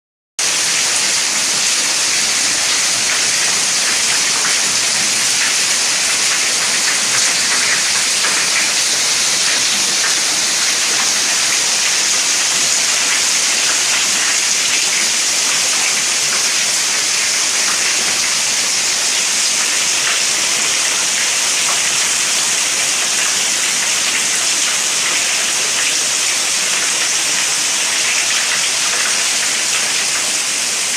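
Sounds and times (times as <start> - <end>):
steady rain patter: 0.4 - 30.9.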